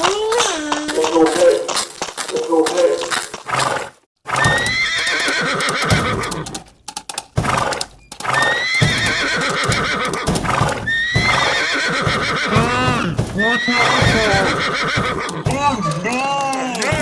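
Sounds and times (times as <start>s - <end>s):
hooves clip-clopping: 0.0s - 17.0s
horse neighing: 0.9s - 6.7s, 7.4s - 17.0s.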